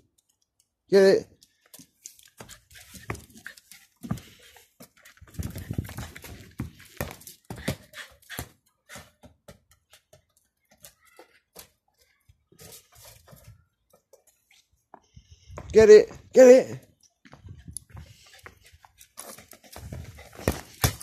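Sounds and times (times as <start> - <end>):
dog paws scrabbling on stone: 1.4 - 14.9, 17.2 - 21.0.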